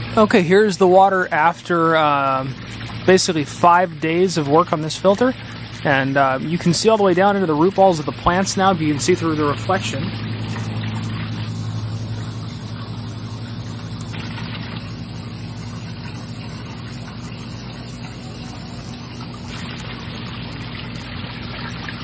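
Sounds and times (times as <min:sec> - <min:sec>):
low motor hum: 0:00.0 - 0:22.0
moving water: 0:00.0 - 0:22.0.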